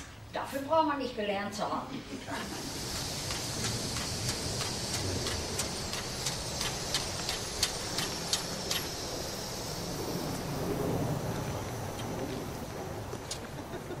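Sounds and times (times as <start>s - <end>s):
steam hissing: 2.3s - 14.0s.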